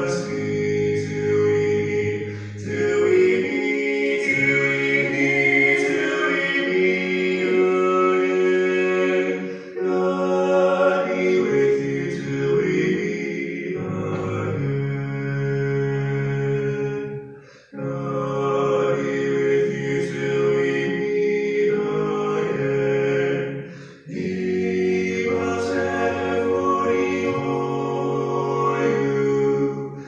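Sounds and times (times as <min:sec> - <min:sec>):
voices singing a slow hymn: 0:00.0 - 0:30.0.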